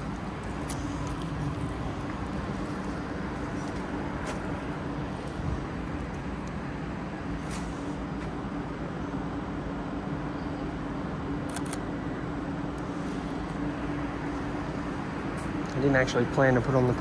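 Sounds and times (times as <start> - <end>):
low hum: 0.0 - 15.8
passing vehicles: 0.0 - 17.0.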